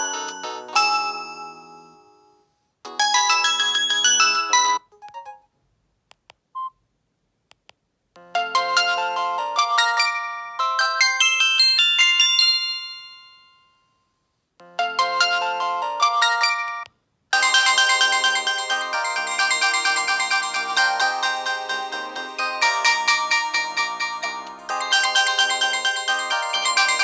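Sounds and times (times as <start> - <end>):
phone ringtone chiming melodies: 0.0 - 2.3, 2.9 - 5.4, 8.4 - 13.9, 14.8 - 27.0.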